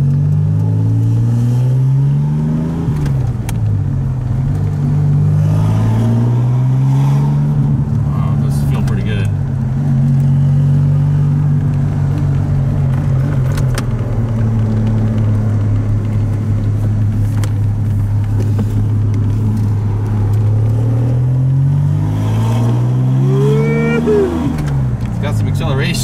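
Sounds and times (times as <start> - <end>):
car engine heard from cabin: 0.0 - 26.0.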